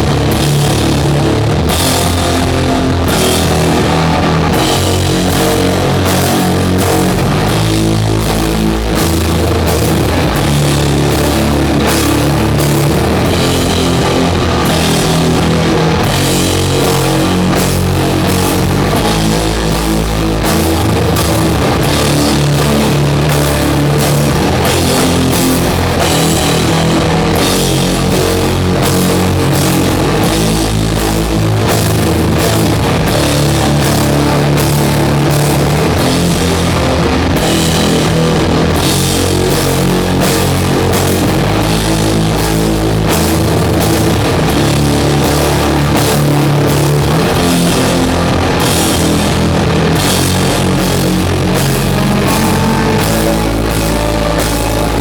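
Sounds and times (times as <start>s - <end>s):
distorted guitars and bass: 0.0s - 55.0s
drums with cymbal hits: 0.0s - 55.0s.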